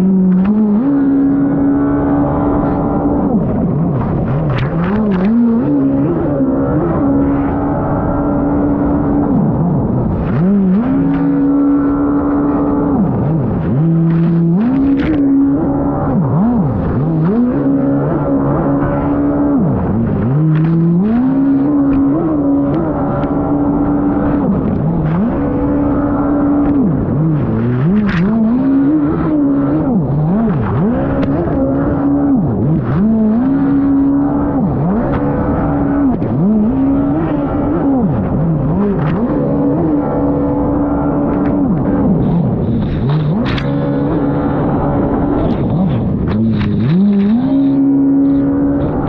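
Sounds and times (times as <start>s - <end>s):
jet ski engine revving: 0.0s - 49.0s.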